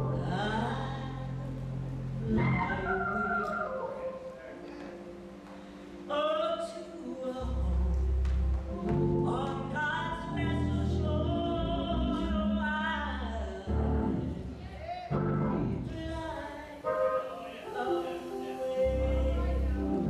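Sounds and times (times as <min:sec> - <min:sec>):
woman singing into a microphone: 0:00.0 - 0:04.2, 0:06.1 - 0:14.5, 0:15.8 - 0:20.0.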